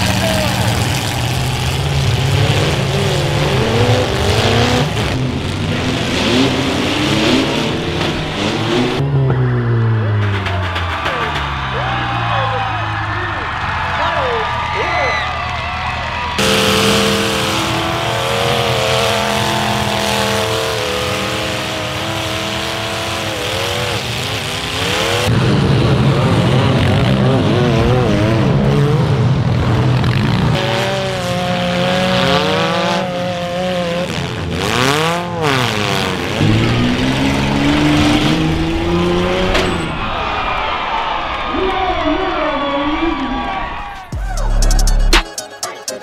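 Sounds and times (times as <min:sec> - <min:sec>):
car engines revving: 0:00.0 - 0:45.2.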